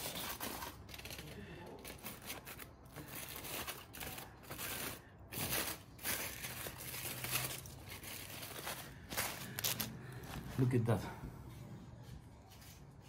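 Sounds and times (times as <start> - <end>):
aluminium foil crinkling and tearing: 0.0 - 11.0.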